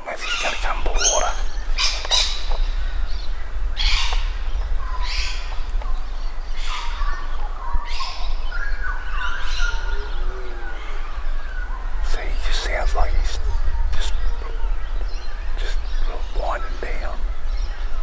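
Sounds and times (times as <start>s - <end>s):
birds squawking harshly: 0.0s - 18.0s
whistled bird notes: 0.1s - 18.0s.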